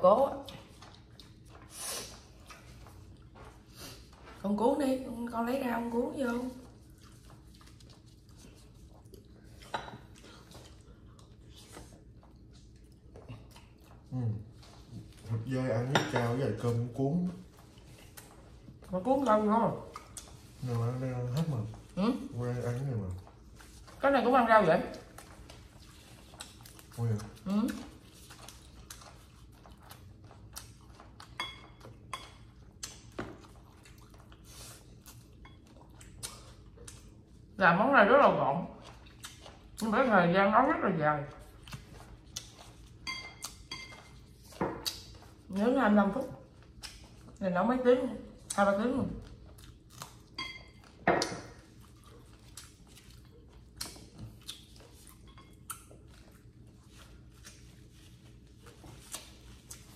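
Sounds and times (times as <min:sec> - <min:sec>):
chewing and mouth clicks: 0:00.3 - 0:04.4, 0:06.5 - 0:15.5, 0:16.6 - 0:24.0, 0:24.8 - 0:37.6, 0:38.7 - 0:40.0, 0:41.3 - 0:45.6, 0:46.2 - 0:47.4, 0:48.3 - 0:59.9.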